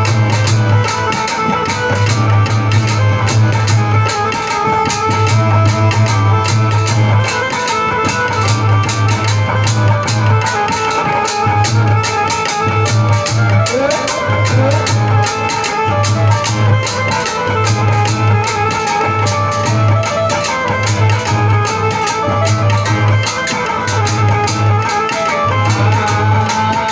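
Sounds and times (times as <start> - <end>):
fast percussion beat: 0.0 - 26.9
melodic instrument line: 0.0 - 26.9.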